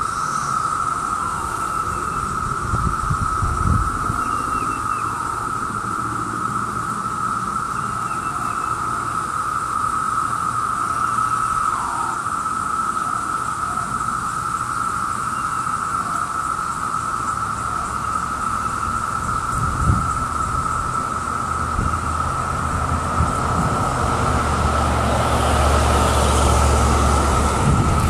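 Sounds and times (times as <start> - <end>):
cicadas droning: 0.0 - 28.0.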